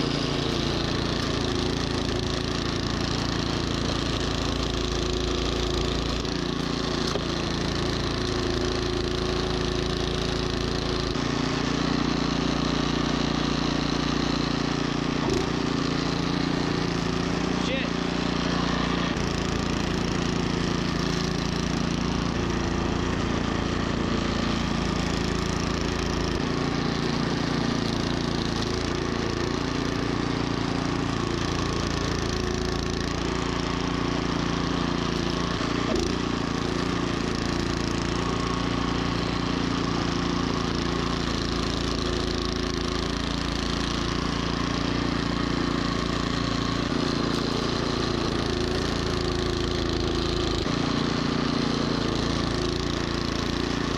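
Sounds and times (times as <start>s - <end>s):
snowblower engine running: 0.0s - 53.9s.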